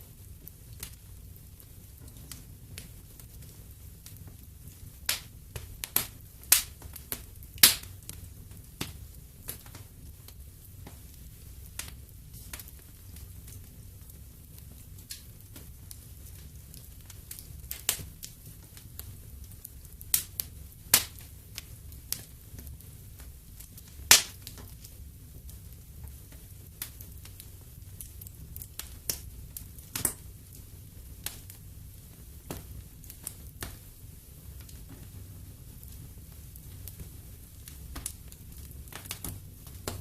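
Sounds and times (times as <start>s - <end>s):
low fire rumble: 0.0s - 40.0s
wood fire crackling and popping: 0.0s - 40.0s.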